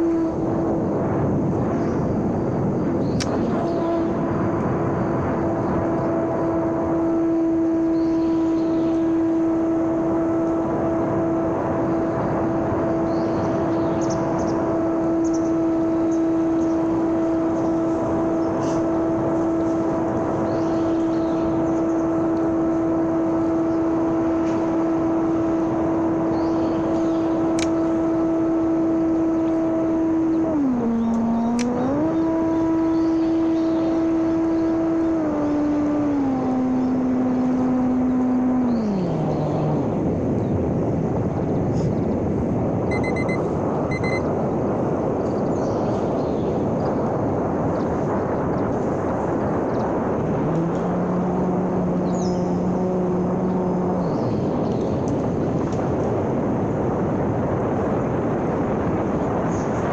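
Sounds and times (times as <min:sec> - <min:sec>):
model airplane motor whine: 0:00.0 - 0:41.9, 0:42.9 - 0:45.2, 0:46.6 - 0:59.9.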